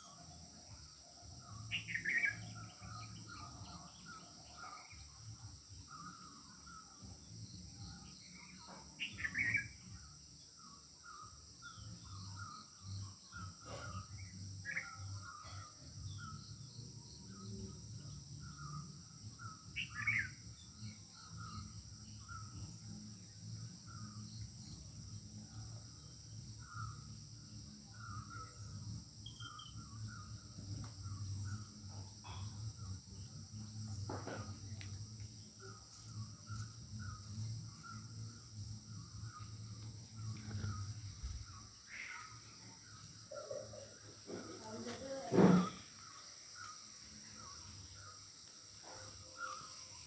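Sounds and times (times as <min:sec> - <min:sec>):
bird chirping: 0:00.0 - 0:50.0
high insect drone: 0:00.0 - 0:50.0.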